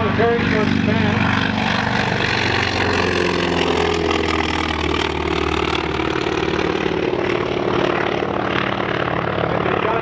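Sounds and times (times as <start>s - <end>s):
propeller engine drone: 0.0s - 10.0s.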